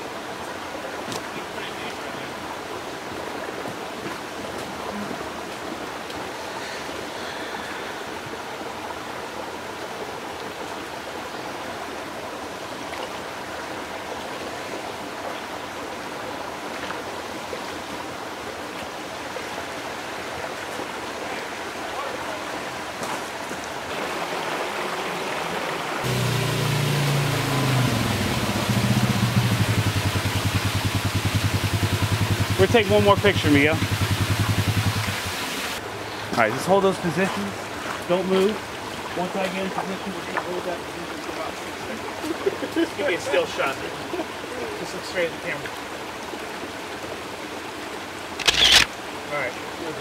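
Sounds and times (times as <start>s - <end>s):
creek running over rocks: 0.0s - 50.0s.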